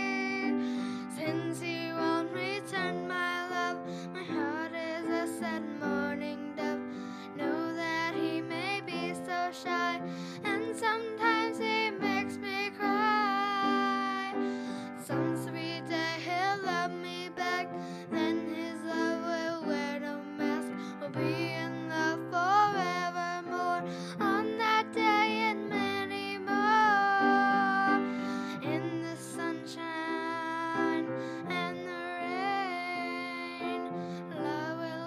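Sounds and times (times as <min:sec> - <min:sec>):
girl singing with vibrato: 0:00.0 - 0:35.0
piano accompaniment: 0:00.0 - 0:35.0.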